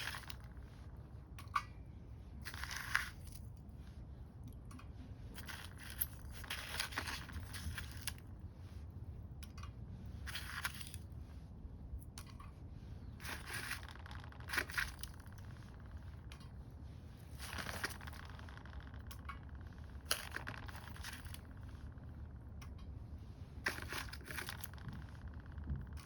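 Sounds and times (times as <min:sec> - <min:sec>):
low rumble of fire: 0:00.0 - 0:26.0.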